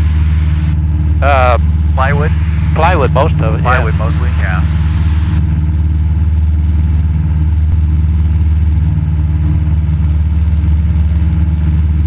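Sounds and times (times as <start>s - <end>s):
airplane engine and propeller droning: 0.0s - 12.0s.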